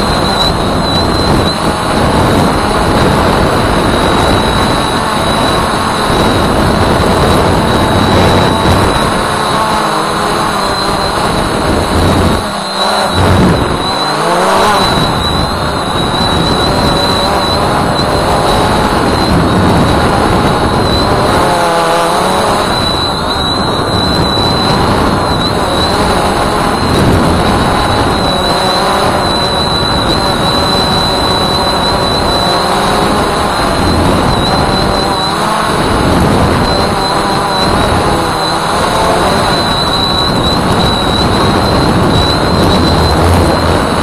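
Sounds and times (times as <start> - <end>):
drone propellers whirring: 0.0 - 44.0.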